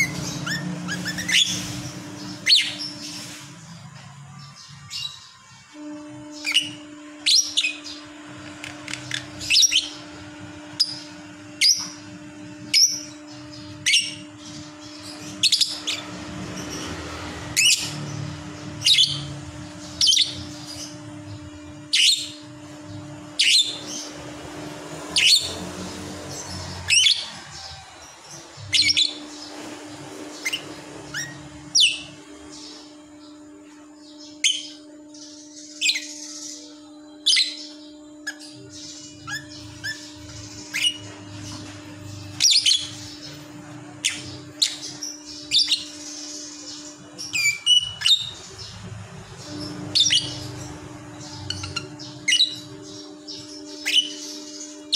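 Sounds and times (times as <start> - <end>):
bird chirping: 0.0 - 54.9
steady low hum: 0.0 - 54.9.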